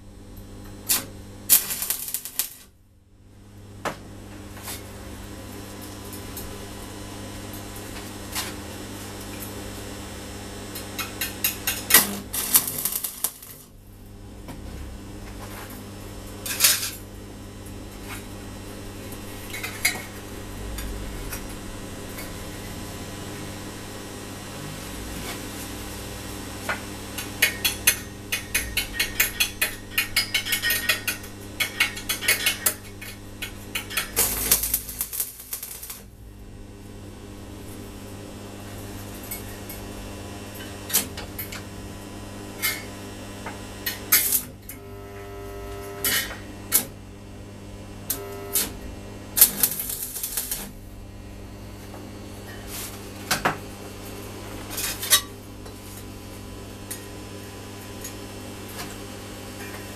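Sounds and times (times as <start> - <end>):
electrical hum: 0.0 - 59.9
welding arc crackle: 0.6 - 2.8, 10.6 - 14.3, 15.0 - 47.0, 48.1 - 58.8.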